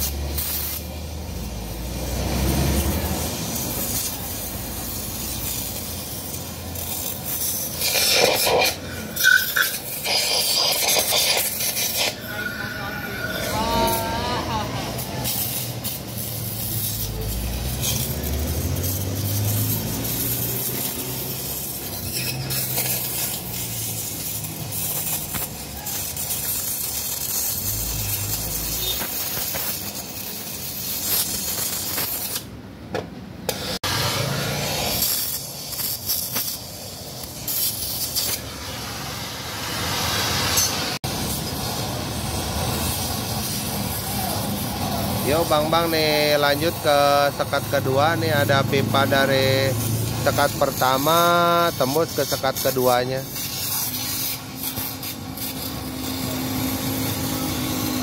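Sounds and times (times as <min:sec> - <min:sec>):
gas cutting torch hissing: 0:00.0 - 0:32.6, 0:33.4 - 0:58.0.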